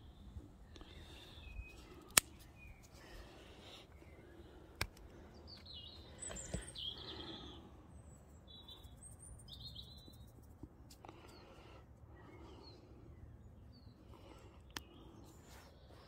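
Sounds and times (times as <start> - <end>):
faint outdoor background noise: 0.0 - 16.0
wild birds chirping: 0.0 - 16.0.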